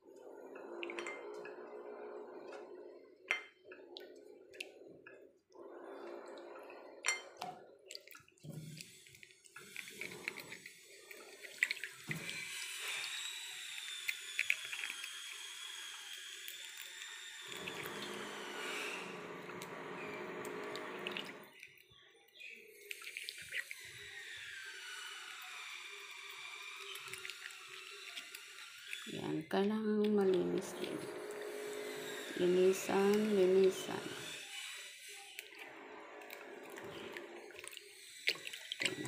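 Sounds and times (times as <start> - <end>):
water sloshing in a basin: 0.0 - 39.0.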